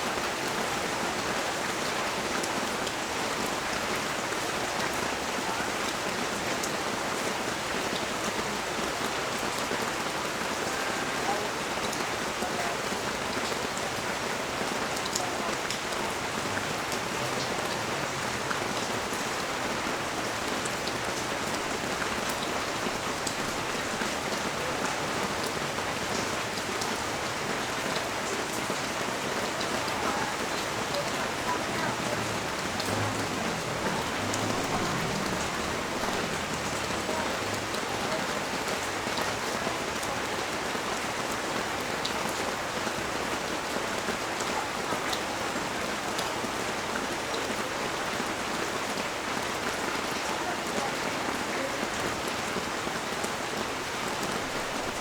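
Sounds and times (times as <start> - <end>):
rain hissing on a street: 0.0 - 55.0.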